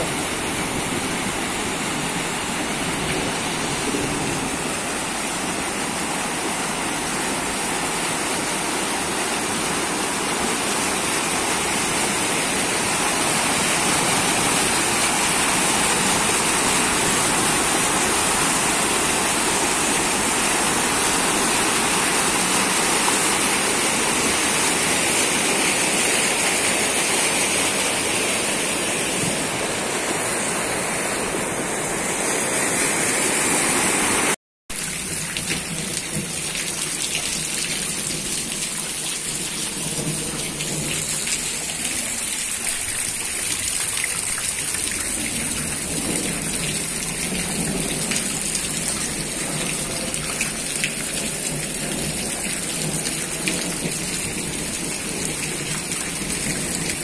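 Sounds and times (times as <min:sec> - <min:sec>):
floodwater rushing through street: 0:00.0 - 0:57.0.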